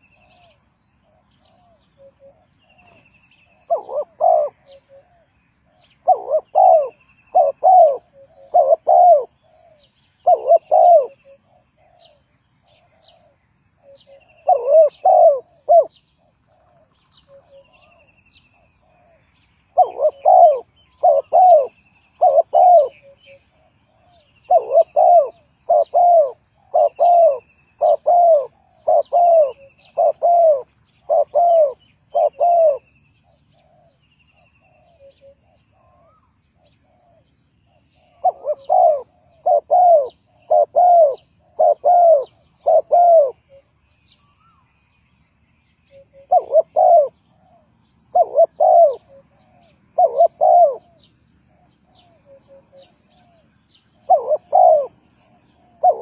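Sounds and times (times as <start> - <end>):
dove cooing: 0.0 - 44.6, 45.8 - 56.0
small birds chirping: 0.0 - 56.0.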